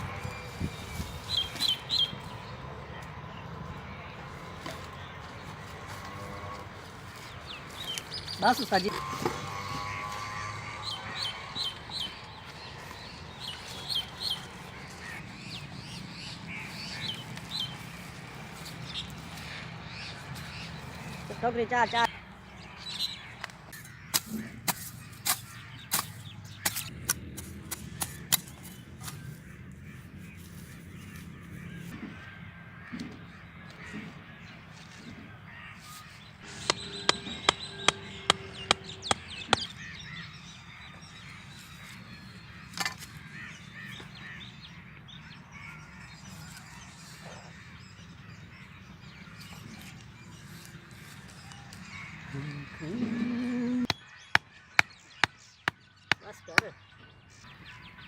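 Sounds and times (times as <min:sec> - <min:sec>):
crows cawing: 0:04.9 - 0:27.0, 0:27.7 - 0:56.9.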